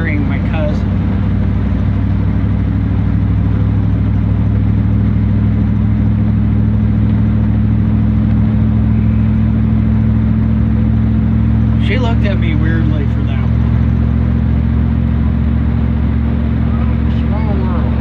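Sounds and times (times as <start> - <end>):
road noise: 0.0 - 18.0
truck engine running: 0.0 - 18.0.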